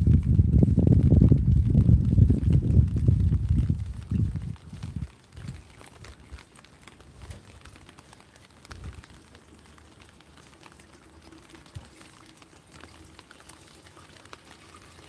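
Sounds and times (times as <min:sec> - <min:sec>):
footsteps on wet pavement: 0:00.0 - 0:15.0
rain pattering on umbrella: 0:00.0 - 0:15.0.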